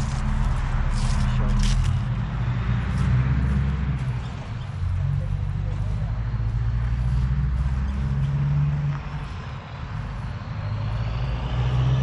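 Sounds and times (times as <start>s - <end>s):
tractor engine running: 0.0s - 11.4s.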